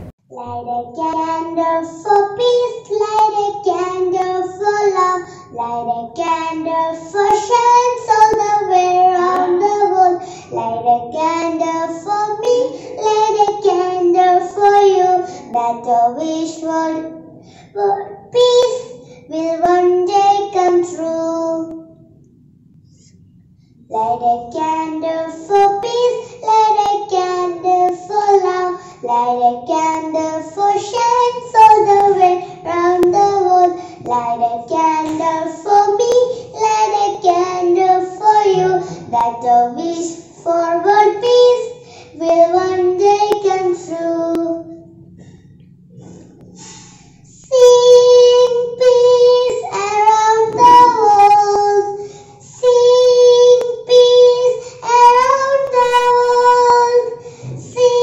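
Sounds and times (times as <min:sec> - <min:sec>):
girl singing: 0:00.1 - 0:22.2, 0:23.8 - 0:45.4, 0:46.0 - 0:58.0.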